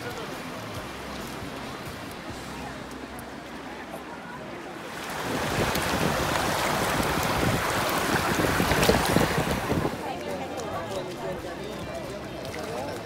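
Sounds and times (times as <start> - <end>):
shallow water rushing over rock: 0.0 - 13.0.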